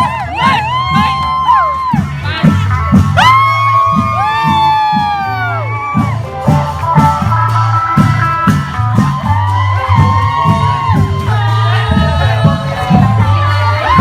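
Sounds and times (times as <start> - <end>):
crowd shouting and whooping: 0.0 - 6.5, 8.4 - 14.0
live band music: 0.0 - 14.0.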